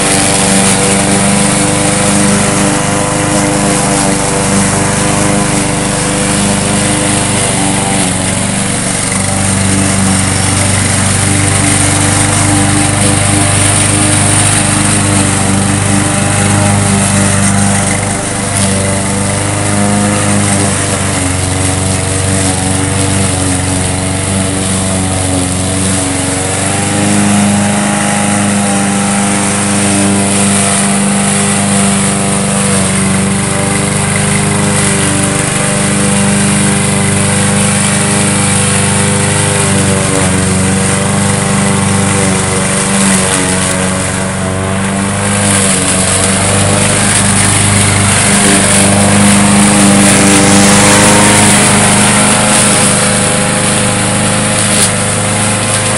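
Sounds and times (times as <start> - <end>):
lawn mower engine running: 0.0 - 55.9.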